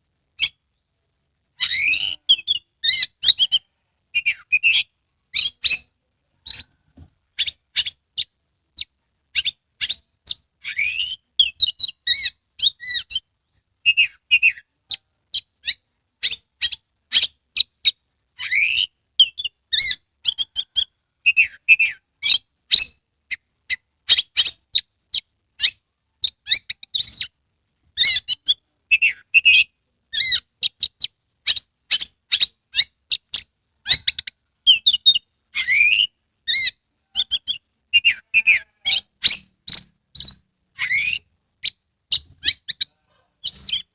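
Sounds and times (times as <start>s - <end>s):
bird singing: 1.6s - 27.4s, 28.0s - 43.9s.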